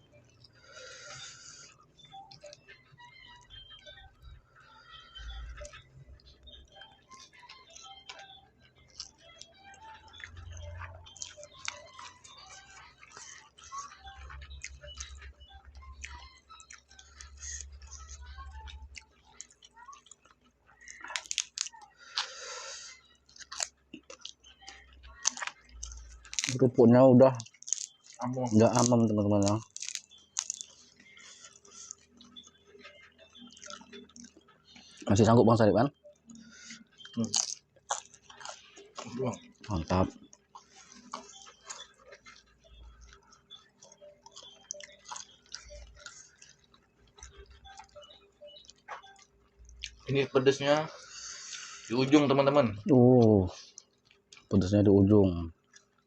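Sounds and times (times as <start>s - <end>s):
chewing crunchy crackers: 0.0s - 56.0s.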